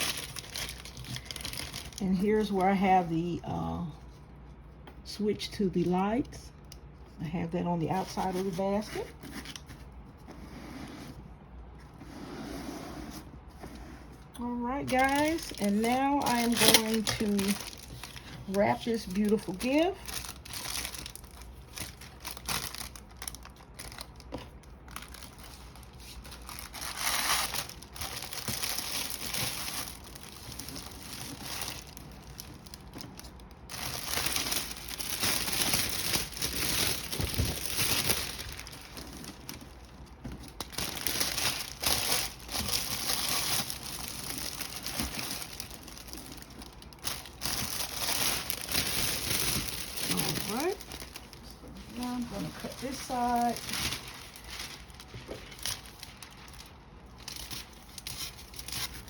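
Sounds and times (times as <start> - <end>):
gift wrap crinkling: 0.0 - 3.8, 14.4 - 59.0.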